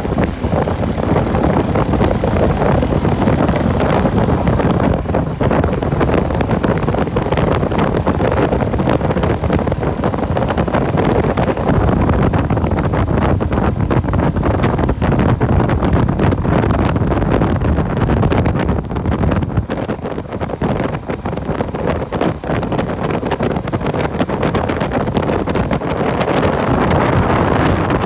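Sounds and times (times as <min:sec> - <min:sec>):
motorbike running: 0:00.0 - 0:28.0
road noise: 0:00.0 - 0:28.0
wind buffeting microphone: 0:00.0 - 0:28.0.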